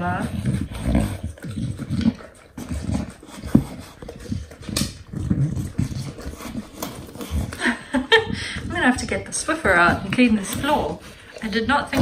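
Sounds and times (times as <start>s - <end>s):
dog snuffling and sniffing: 0.0s - 12.0s.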